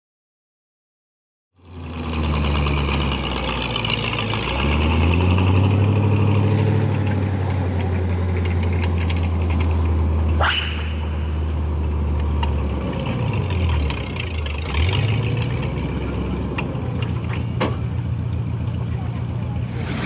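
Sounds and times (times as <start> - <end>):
large engine humming: 1.6 - 20.0.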